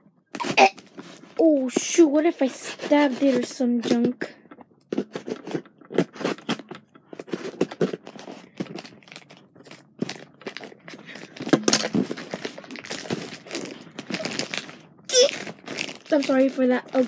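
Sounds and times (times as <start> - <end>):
plastic crinkling: 0.4 - 17.0.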